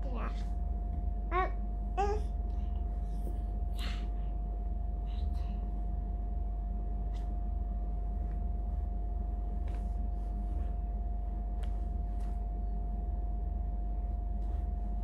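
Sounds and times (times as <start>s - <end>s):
low machine hum: 0.0s - 15.0s
mid-pitched whine: 0.0s - 15.0s.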